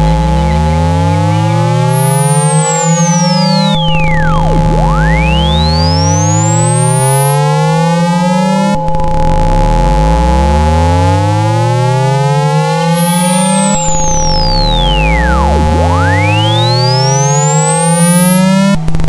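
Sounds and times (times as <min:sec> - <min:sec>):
high gliding whistle: 0:00.0 - 0:09.6, 0:11.1 - 0:19.0
low hum: 0:00.0 - 0:19.0
rising low sweeps: 0:00.0 - 0:19.0
steady pure tones: 0:00.0 - 0:19.0.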